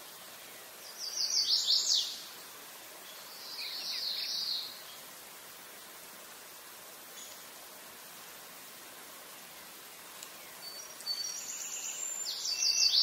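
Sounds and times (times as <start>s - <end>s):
songbird singing: 0.0s - 5.4s, 6.7s - 13.0s
background hiss: 0.0s - 13.0s.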